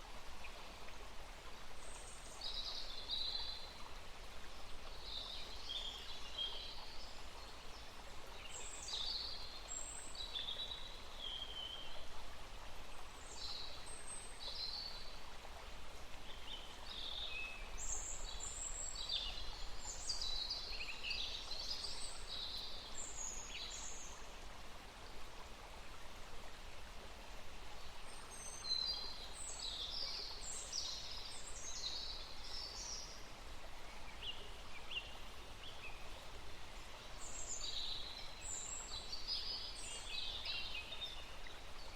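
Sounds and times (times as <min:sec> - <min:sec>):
steady background hiss: 0:00.0 - 0:41.9.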